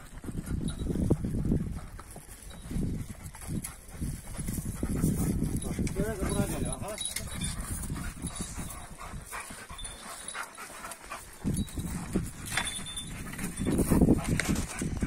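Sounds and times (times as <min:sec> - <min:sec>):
dogs panting: 0:00.0 - 0:15.0
dogs shuffling: 0:02.0 - 0:15.0.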